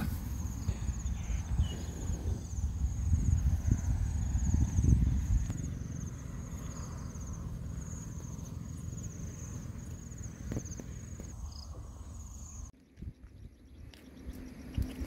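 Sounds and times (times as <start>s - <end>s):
insects trilling: 0.0s - 12.7s
low rumble: 0.0s - 15.0s.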